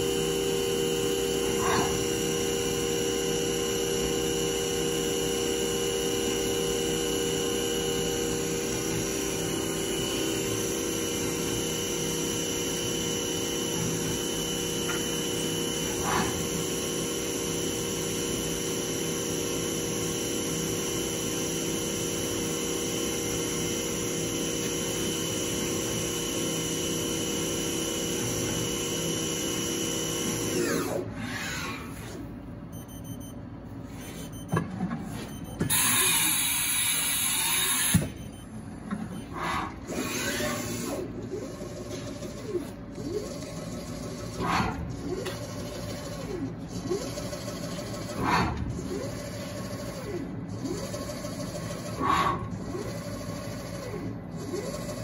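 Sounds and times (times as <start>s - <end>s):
milling machine spindle whine: 0.0s - 32.2s, 35.2s - 48.3s.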